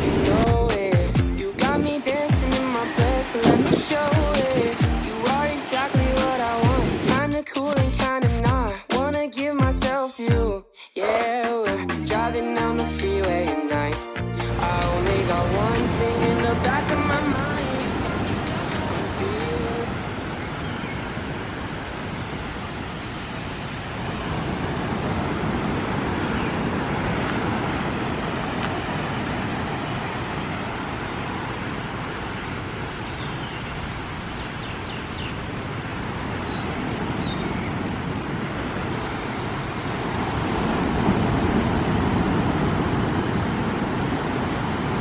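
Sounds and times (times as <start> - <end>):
waves washing up a beach: 0.0 - 8.3, 14.4 - 45.0.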